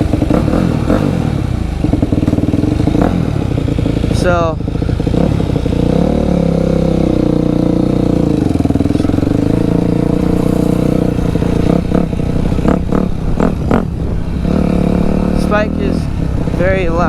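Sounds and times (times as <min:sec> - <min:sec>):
loud dirt bike engine: 0:00.0 - 0:17.0.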